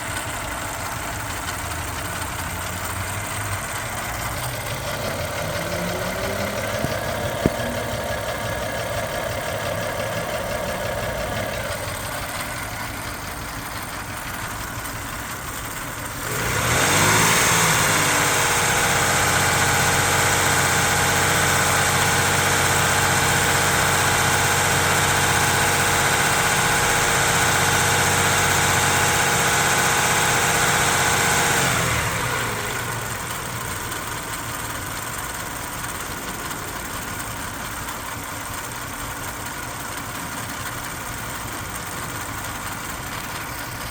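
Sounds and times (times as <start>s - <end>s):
misfiring car engine revving: 0.0s - 43.9s.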